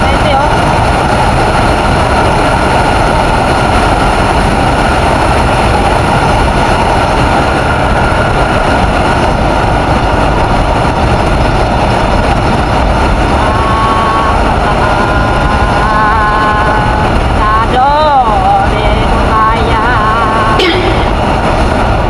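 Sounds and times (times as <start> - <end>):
scooter engine running: 0.0 - 21.8
road noise: 0.0 - 22.0
wind rushing on microphone: 0.0 - 22.0.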